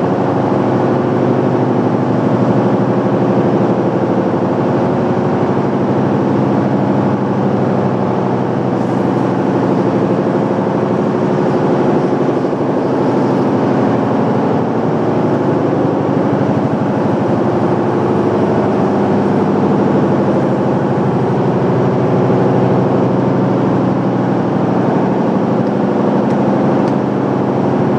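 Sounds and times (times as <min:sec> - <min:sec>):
machine drone: 0:00.0 - 0:27.9.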